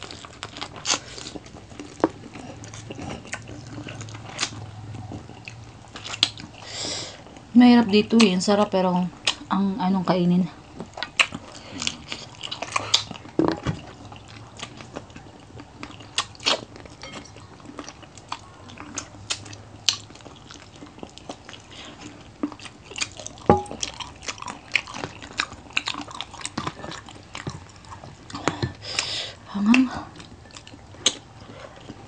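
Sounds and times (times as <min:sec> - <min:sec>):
people crunching crispy food: 0:00.0 - 0:07.5, 0:10.6 - 0:32.0.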